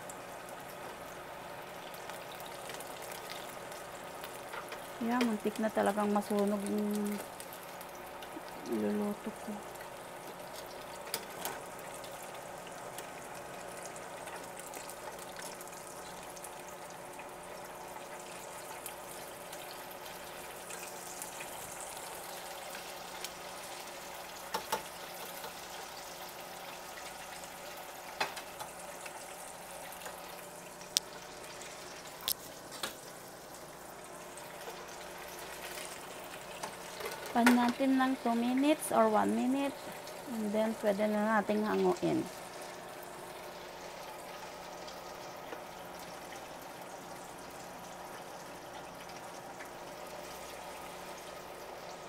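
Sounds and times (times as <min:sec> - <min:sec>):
oil sizzling and bubbling: 0:00.0 - 0:52.0.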